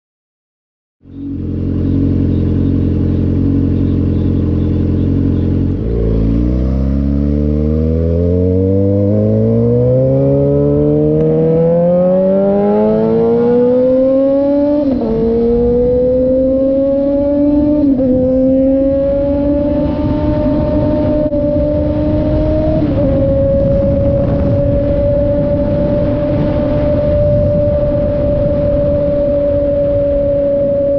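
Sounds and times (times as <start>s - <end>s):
motorcycle engine revving: 1.0s - 30.9s.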